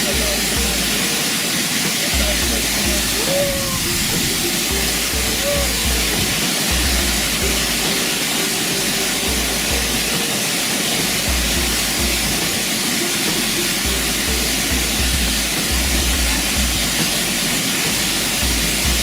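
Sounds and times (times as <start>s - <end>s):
music with deep bass: 0.0s - 19.0s
waterfall rushing: 0.0s - 19.0s.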